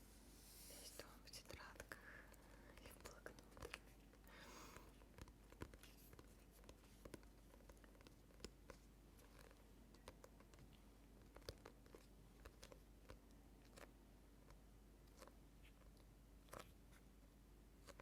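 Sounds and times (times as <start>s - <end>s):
faint clicks and taps: 1.4s - 17.1s.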